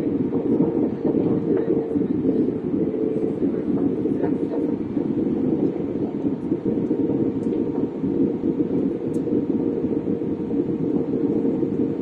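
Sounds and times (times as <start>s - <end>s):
airliner engines roaring: 0.0s - 12.0s
faint humming tone: 0.0s - 12.0s.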